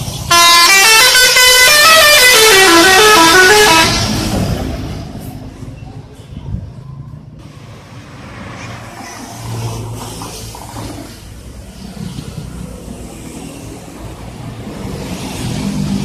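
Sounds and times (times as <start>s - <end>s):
roadside traffic: 0.0s - 16.0s.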